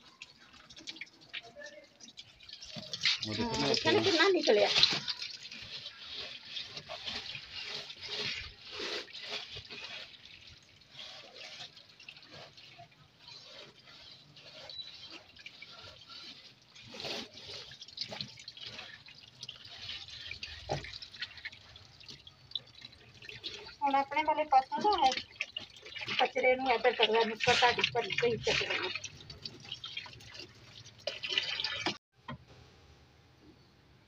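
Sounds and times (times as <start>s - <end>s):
water dripping and trickling: 0.0s - 32.0s.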